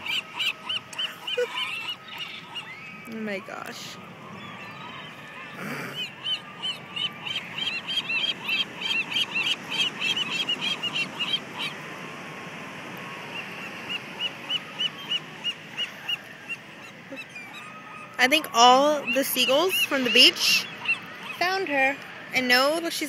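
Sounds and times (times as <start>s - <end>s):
gulls calling: 0.0s - 23.0s.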